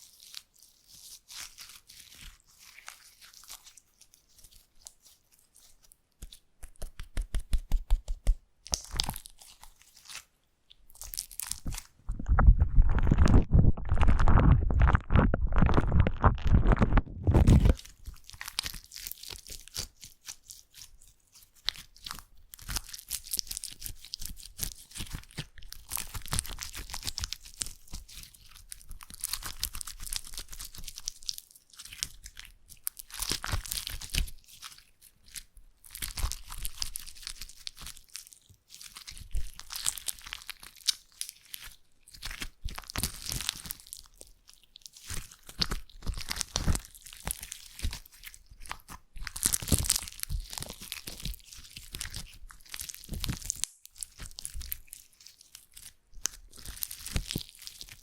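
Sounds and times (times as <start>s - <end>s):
slime crackling and popping: 0.0s - 58.0s
slime squishing by hand: 0.0s - 58.0s.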